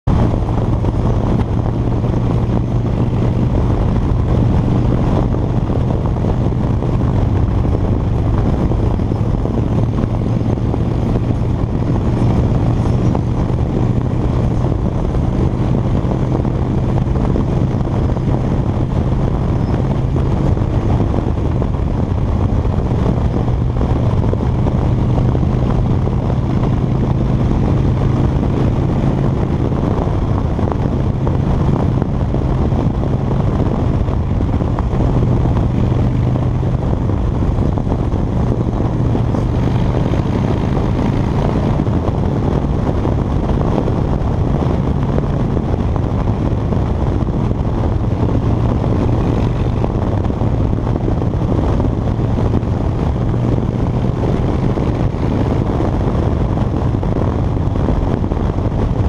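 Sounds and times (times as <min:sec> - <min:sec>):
motorcycle engine cruising: 0:00.0 - 0:59.0
wind rushing over microphone: 0:00.0 - 0:59.0.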